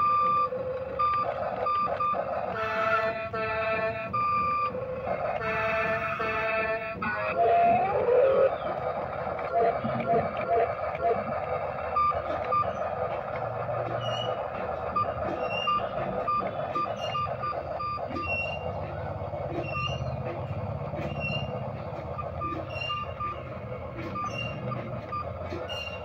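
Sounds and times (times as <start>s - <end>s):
toy excavator motors and gears: 0.0s - 26.0s.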